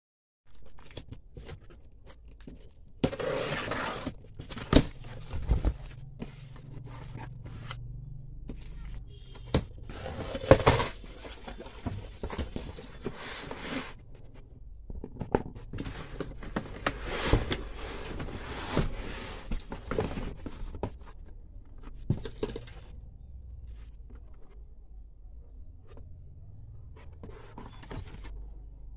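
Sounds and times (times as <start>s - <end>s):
cardboard scraping and rustling: 0.6s - 7.8s, 8.5s - 22.9s, 26.9s - 28.7s.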